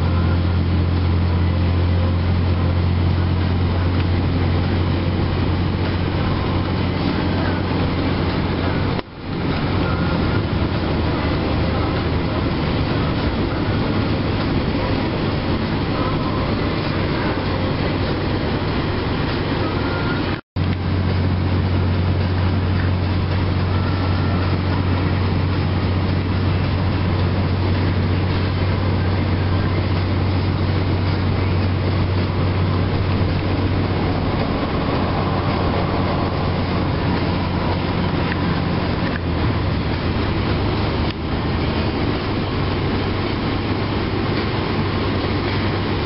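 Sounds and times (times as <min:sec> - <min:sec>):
car engine and road noise: 0:00.0 - 0:46.0
low hum: 0:00.0 - 0:46.0.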